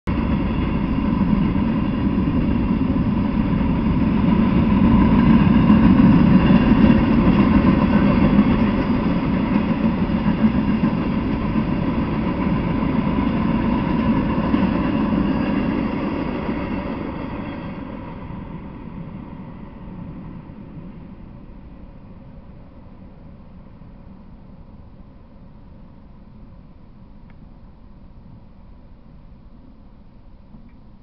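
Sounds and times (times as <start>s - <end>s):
train wheels rumbling on rails: 0.1s - 25.5s.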